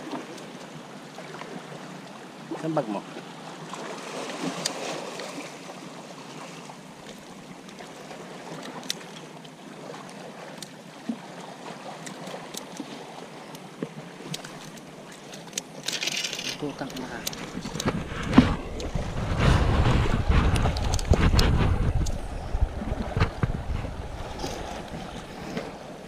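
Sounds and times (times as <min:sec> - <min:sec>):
sea water washing against rocks: 0:00.0 - 0:26.0.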